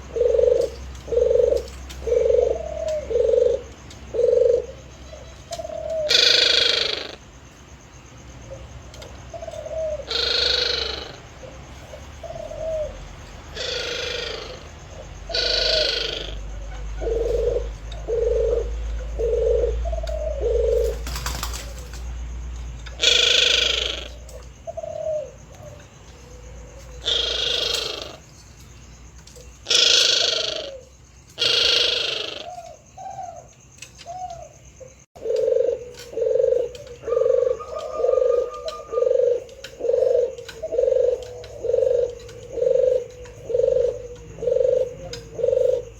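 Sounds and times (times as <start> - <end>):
dove cooing: 0.0 - 28.3, 29.4 - 45.9.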